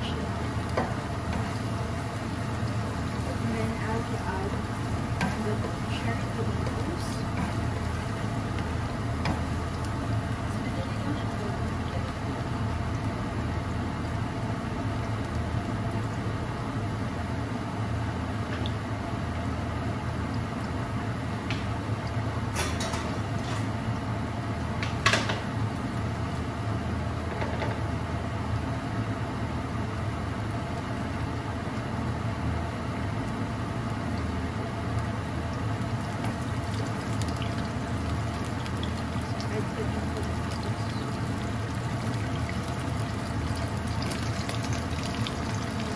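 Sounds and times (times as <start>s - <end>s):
garlic frying in oil: 0.0s - 45.9s
stovetop hum and hiss: 0.0s - 45.9s.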